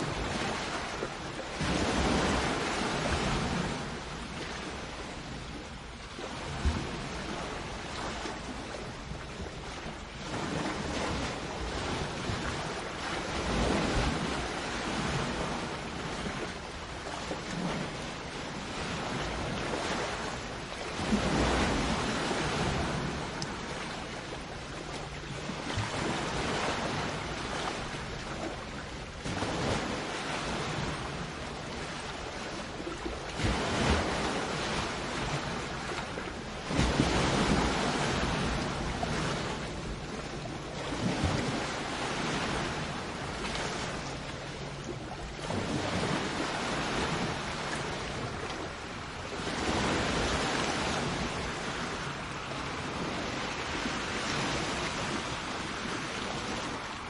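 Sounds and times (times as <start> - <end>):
sea waves breaking on shore: 0.0 - 57.0
wind on microphone: 0.0 - 57.0.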